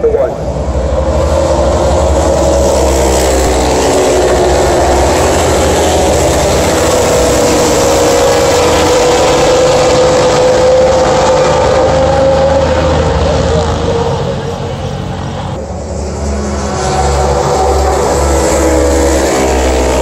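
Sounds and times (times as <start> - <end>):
racing motorcycles passing at speed: 0.0 - 20.0.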